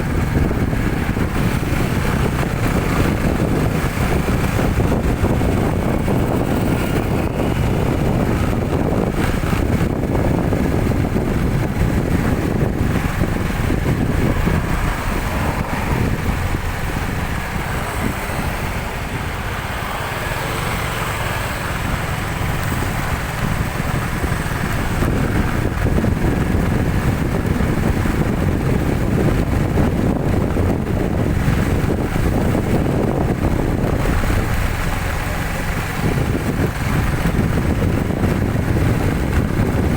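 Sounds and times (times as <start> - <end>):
vehicle engine and road rumble: 0.0 - 39.9
wind buffeting microphone: 0.0 - 39.9.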